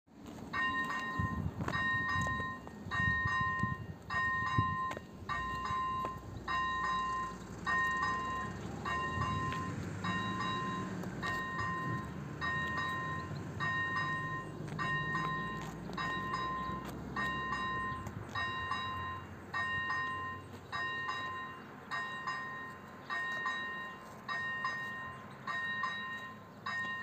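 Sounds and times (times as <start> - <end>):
level crossing warning bell: 0.2 - 27.0.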